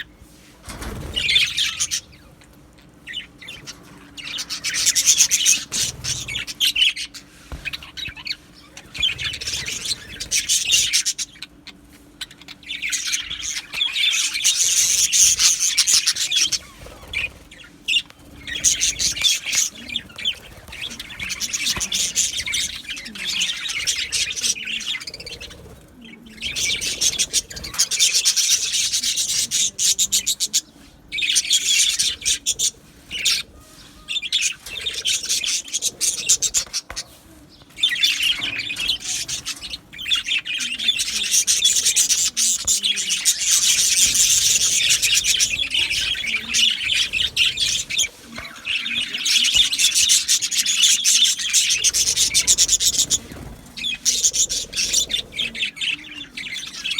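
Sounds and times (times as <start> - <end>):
budgerigars chattering and warbling: 0.0 - 56.9.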